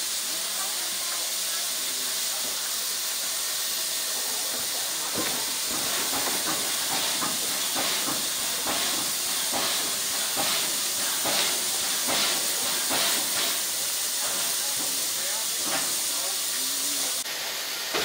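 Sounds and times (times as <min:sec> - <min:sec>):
steam hissing: 0:00.0 - 0:18.0
steam locomotive exhaust beats: 0:00.0 - 0:18.0.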